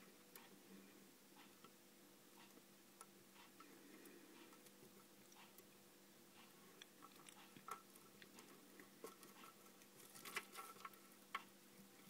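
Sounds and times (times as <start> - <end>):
faint clicks and ticks: 0.0 - 0.6, 1.3 - 12.0
faint steady hum: 0.0 - 12.0.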